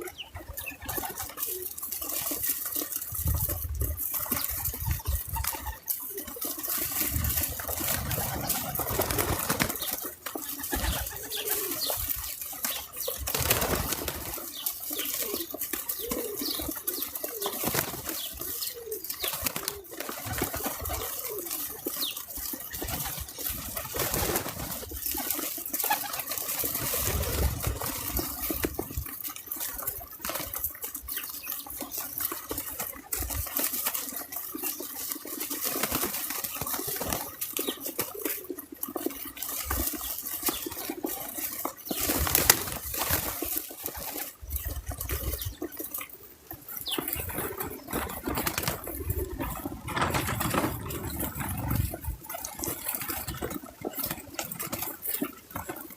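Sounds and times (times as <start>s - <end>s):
birds cooing: 0.0s - 55.9s
wing flutters: 0.4s - 55.9s.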